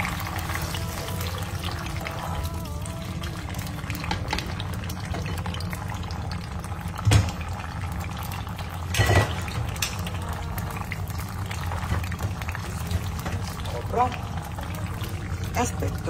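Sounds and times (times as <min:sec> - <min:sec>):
sauce simmering in a frying pan: 0:00.0 - 0:16.0.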